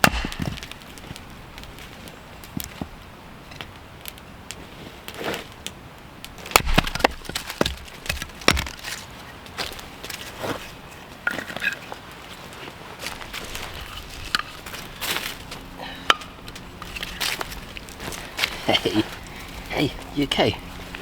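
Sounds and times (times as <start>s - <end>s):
dry wood cracking: 0.0s - 21.0s.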